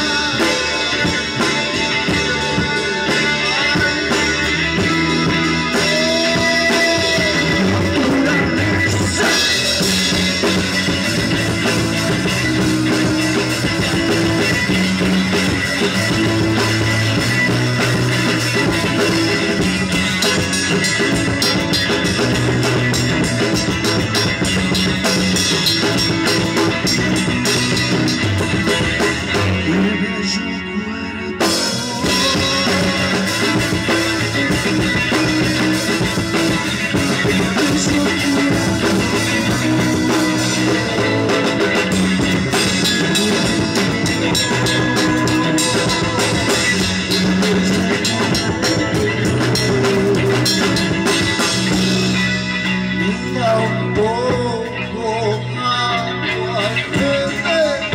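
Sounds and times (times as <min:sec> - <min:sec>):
bass guitar: 0:00.0 - 0:57.9
drum kit: 0:00.0 - 0:57.9
electric guitars: 0:00.0 - 0:57.9.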